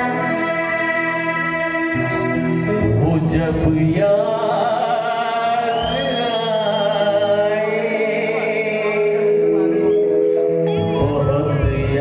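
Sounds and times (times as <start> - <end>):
live band playing: 0.0 - 12.0.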